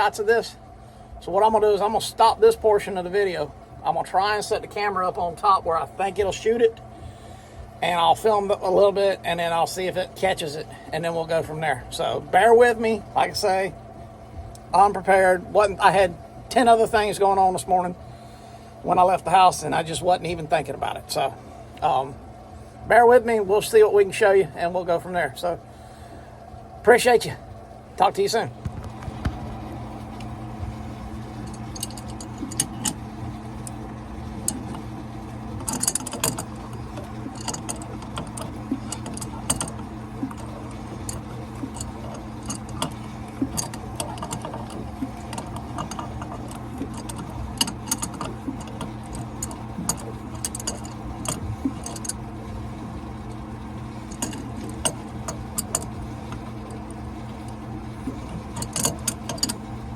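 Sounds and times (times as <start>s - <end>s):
low machinery hum: 0.0s - 59.9s.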